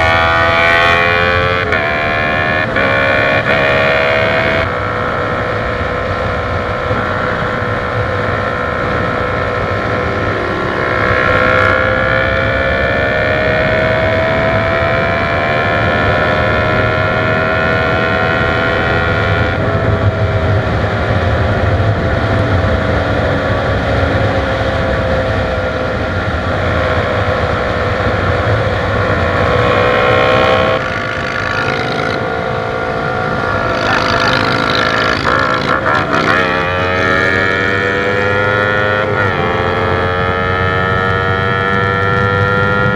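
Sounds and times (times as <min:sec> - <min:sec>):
motorcycle engine running hard: 0:00.0 - 0:42.9
wind and road rush: 0:00.0 - 0:42.9.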